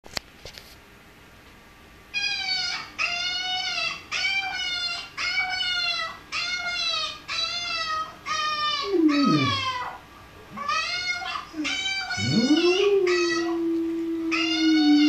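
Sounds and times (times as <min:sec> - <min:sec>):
puppy whining: 0:02.2 - 0:15.0.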